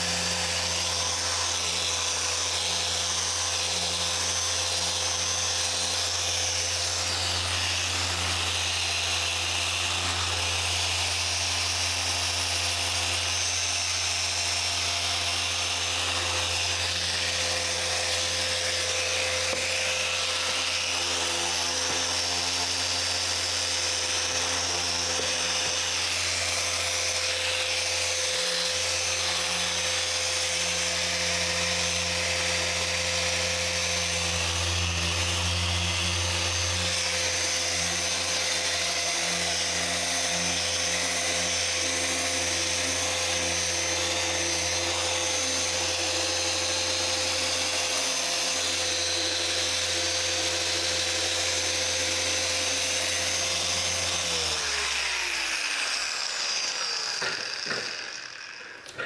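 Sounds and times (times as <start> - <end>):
electric polisher whining: 0.0 - 59.0.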